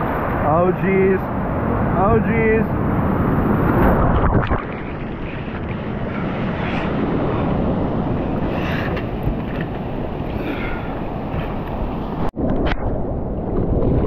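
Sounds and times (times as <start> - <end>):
ocean wave breaking: 0.0 - 12.3.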